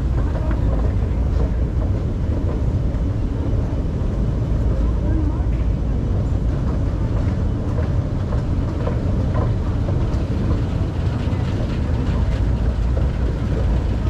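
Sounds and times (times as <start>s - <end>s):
train running with low rumble: 0.0s - 14.0s.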